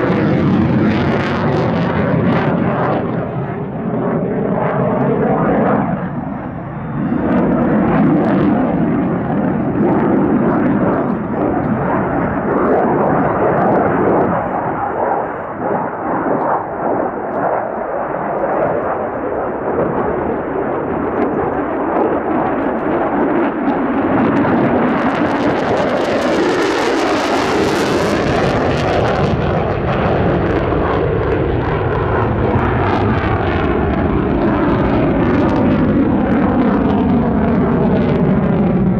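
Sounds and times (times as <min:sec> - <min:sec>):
jet engine whine and rush: 0:00.0 - 0:38.9.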